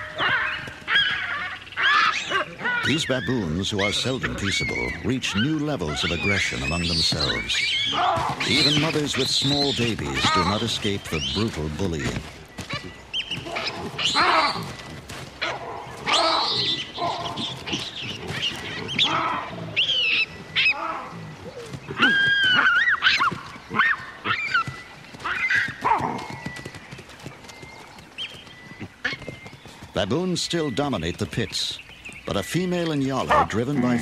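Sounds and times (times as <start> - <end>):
baboons screaming: 0.0 - 26.3, 32.9 - 34.0.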